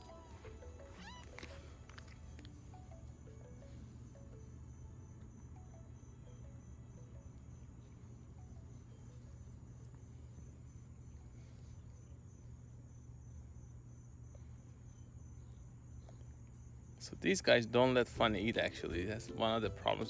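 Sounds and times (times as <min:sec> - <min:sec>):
crickets chirping: 0:00.0 - 0:20.0
low steady hum: 0:00.0 - 0:20.0.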